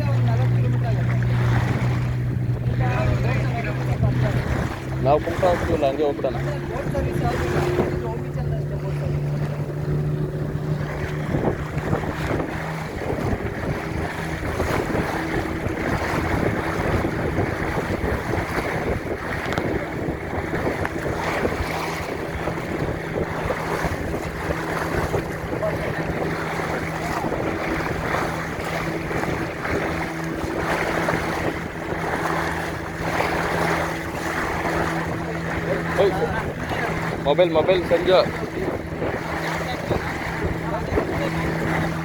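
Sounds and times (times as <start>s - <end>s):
motorboat engine running: 0.0s - 42.0s
water rushing past hull: 0.0s - 42.0s
wind buffeting microphone: 0.0s - 42.0s.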